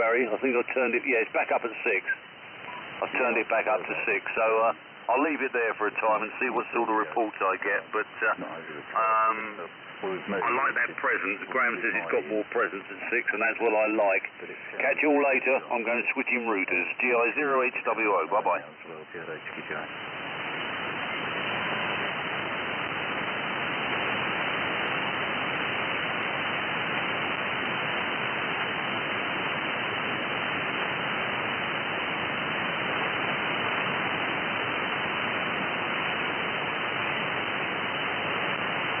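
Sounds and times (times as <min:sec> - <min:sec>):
radio static hiss: 0:00.0 - 0:39.0.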